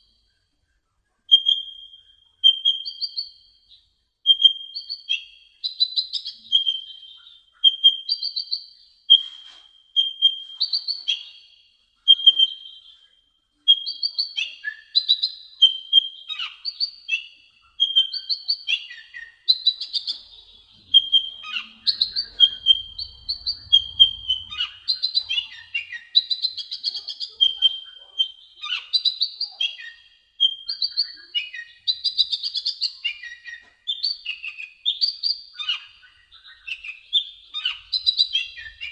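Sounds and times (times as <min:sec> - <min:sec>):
bird chirping and trilling: 0:01.3 - 0:13.1, 0:13.7 - 0:38.9.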